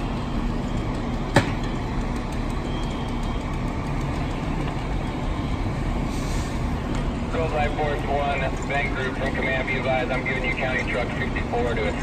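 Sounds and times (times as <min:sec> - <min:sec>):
fire engine droning: 0:00.0 - 0:12.0.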